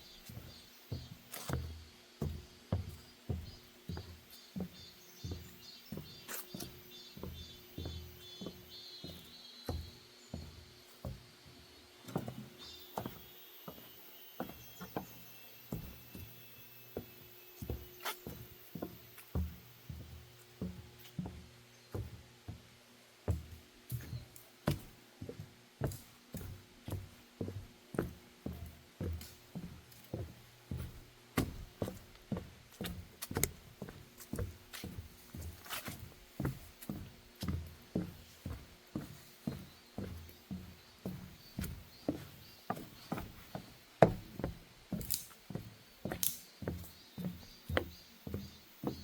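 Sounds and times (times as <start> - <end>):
footsteps on wooden boardwalk: 0.0 - 49.0.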